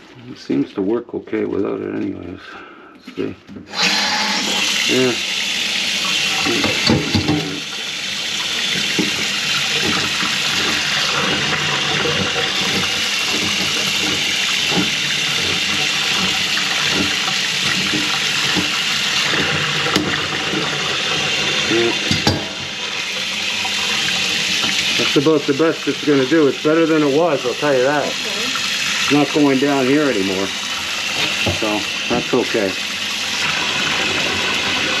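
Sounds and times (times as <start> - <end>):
faucet running into sink: 3.7 - 35.0.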